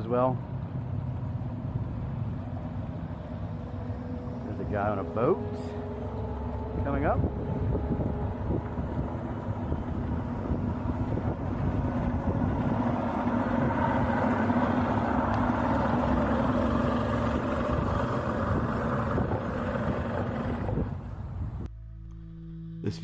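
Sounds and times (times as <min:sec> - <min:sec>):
motorboat engine passing: 0:00.0 - 0:23.0.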